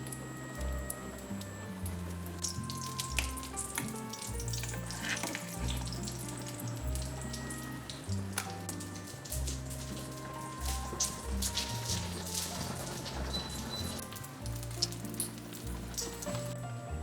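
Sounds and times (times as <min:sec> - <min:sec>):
music of held low notes: 0:00.0 - 0:17.0
food sizzling in a frying pan: 0:01.8 - 0:16.6.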